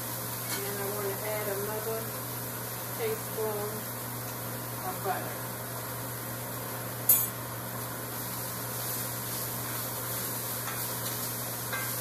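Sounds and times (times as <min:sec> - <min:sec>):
peppers sizzling in a pan: 0:00.0 - 0:12.0.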